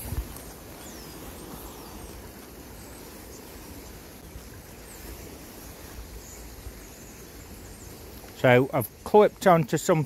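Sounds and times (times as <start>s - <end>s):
shallow river running over stones: 0.0s - 10.0s.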